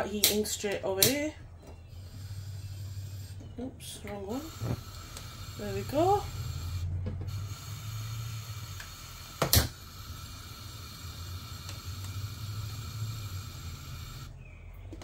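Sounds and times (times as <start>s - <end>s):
gas burner humming: 0.0s - 14.6s.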